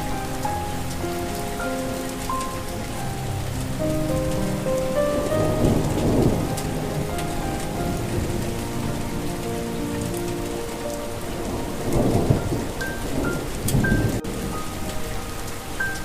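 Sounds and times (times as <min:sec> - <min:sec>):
rolling thunder: 0:00.0 - 0:16.0
soft sustained melody: 0:00.0 - 0:16.0
steady rain: 0:00.0 - 0:16.0.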